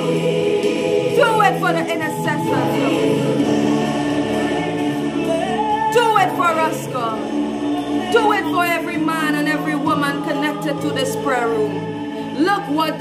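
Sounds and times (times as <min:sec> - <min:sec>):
gospel choir singing: 0:00.0 - 0:13.0.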